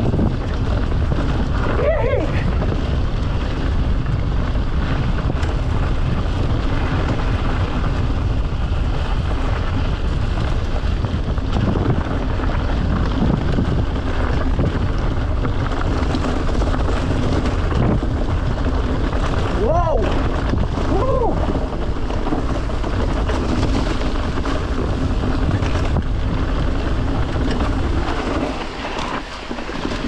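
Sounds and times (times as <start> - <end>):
small ticks and rattles: 0.0 - 20.8, 21.5 - 30.0
bike tyres rolling: 0.0 - 30.0
wind on microphone: 0.0 - 30.0.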